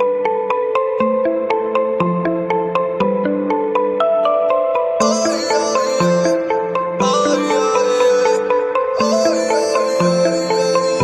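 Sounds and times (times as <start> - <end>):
plucked melody: 0.0 - 11.0.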